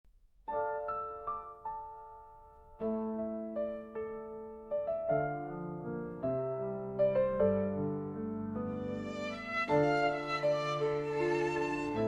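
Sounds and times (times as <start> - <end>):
piano chords and notes: 0.3 - 12.0.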